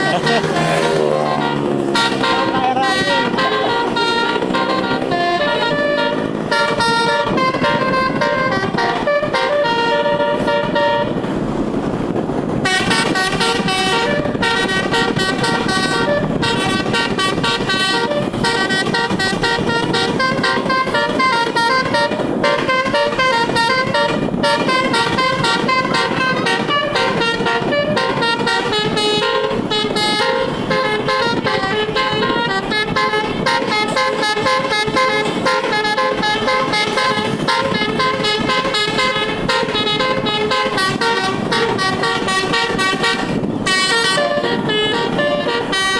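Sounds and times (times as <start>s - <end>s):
musical air horn tune: 0.0s - 45.9s.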